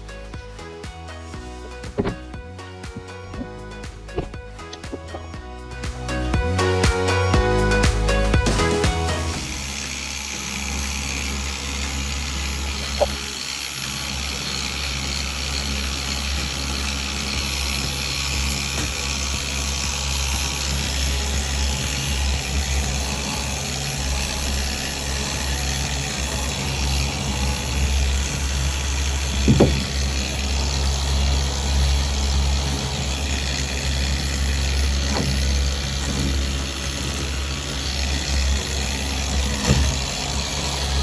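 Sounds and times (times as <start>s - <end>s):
power tool motor running: 0.0s - 41.0s.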